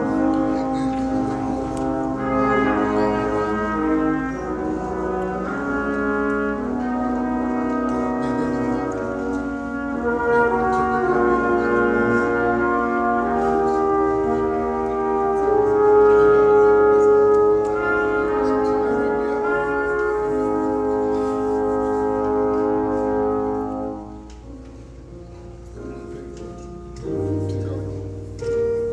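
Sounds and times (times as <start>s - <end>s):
brass chords: 0.0s - 28.9s.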